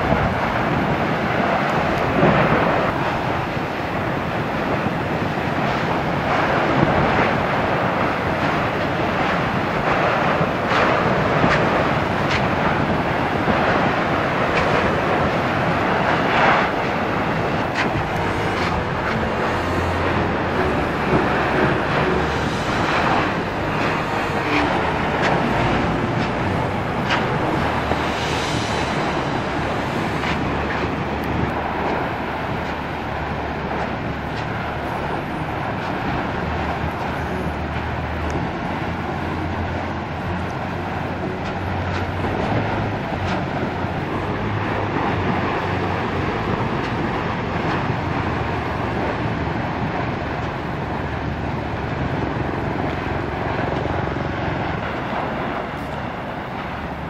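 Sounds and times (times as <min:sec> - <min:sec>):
lava fountain roaring: 0:00.0 - 0:57.0.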